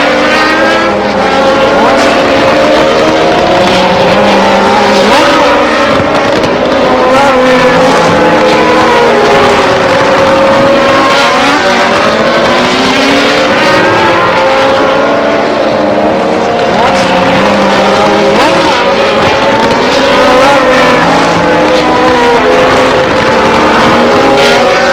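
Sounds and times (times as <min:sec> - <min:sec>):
racing car engines at high revs: 0:00.0 - 0:24.9.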